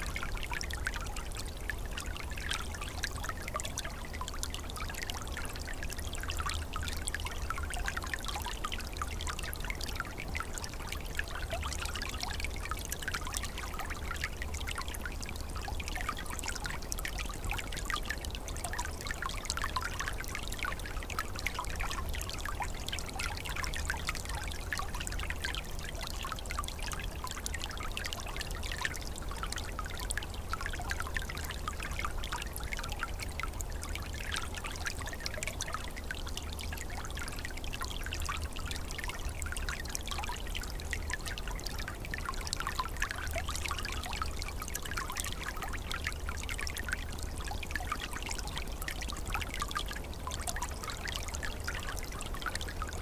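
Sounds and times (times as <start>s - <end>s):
stream babbling over its bed: 0.0s - 53.0s.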